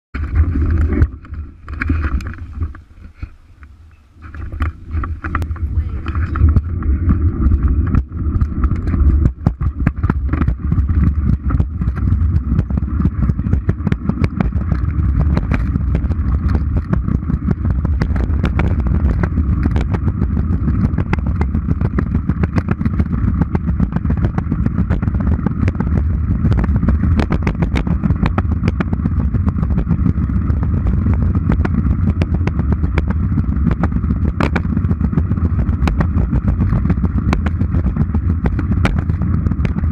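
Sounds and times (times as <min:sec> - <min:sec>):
scooter wheels rolling on concrete: 0:00.2 - 0:39.9.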